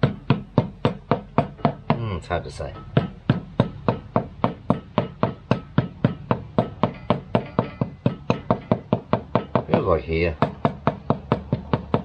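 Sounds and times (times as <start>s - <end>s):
dull knocking on a tyre: 0.0s - 12.0s.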